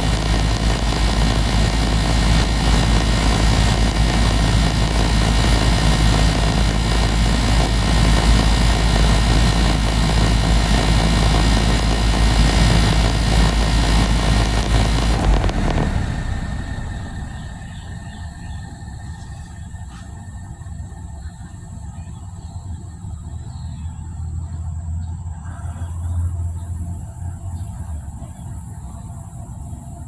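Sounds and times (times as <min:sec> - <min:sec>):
condenser fan rushing air: 0:00.0 - 0:24.3
air conditioner compressor humming: 0:00.0 - 0:25.3.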